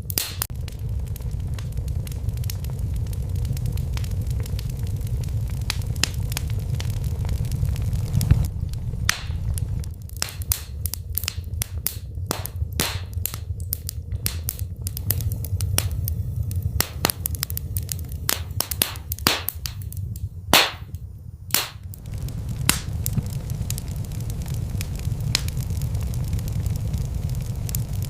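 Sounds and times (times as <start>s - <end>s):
fire crackling and popping: 0.0s - 28.0s
low rumble of fire: 0.0s - 28.0s.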